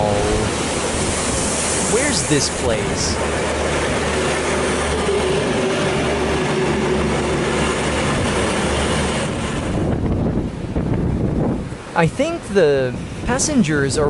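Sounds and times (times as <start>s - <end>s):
train rushing along track: 0.0s - 14.0s.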